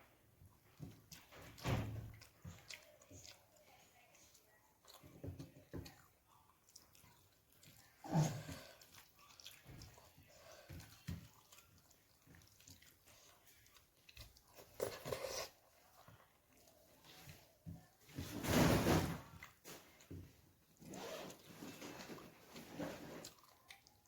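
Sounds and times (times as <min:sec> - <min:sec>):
person chewing and eating: 0:00.0 - 0:18.2, 0:19.2 - 0:24.0.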